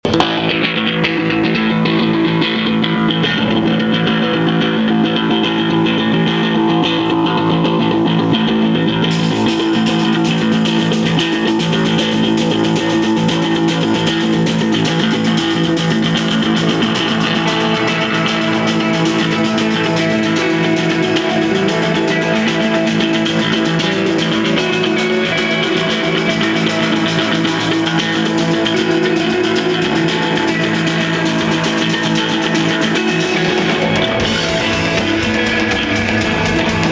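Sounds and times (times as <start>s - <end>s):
bass guitar: 0.0s - 36.9s
electric guitar: 0.0s - 36.9s
live instrumental rock band: 0.0s - 36.9s.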